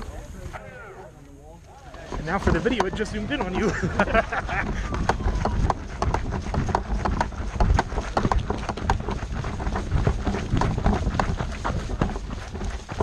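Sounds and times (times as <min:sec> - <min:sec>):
quick footsteps: 0:01.6 - 0:13.0.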